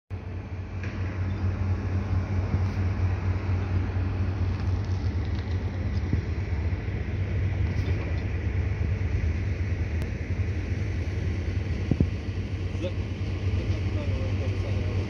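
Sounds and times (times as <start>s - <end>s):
construction machinery engines rumbling: 0.1s - 15.0s.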